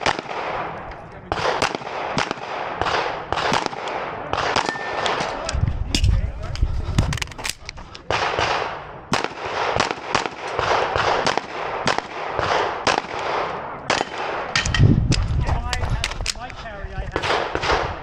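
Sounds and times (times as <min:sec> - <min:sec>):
pistol shots: 0:00.0 - 0:05.5, 0:07.5 - 0:16.4, 0:17.2 - 0:18.0.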